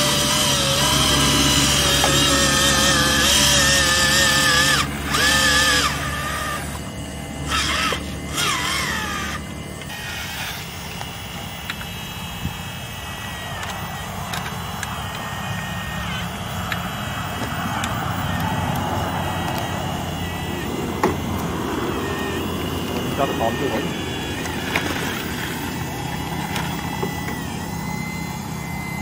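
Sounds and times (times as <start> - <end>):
electric pump motor whining: 0.0 - 29.0.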